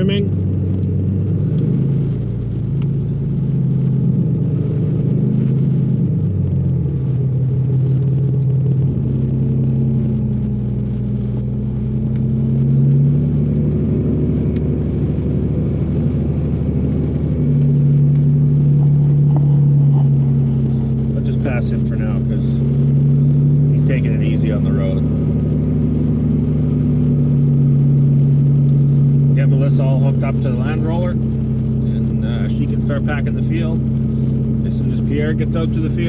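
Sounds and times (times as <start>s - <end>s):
vehicle engine droning: 0.0s - 36.0s.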